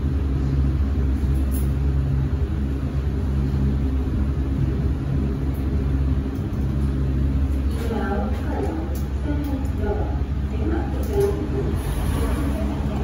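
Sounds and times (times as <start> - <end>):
lift running rumble: 0.0 - 13.0.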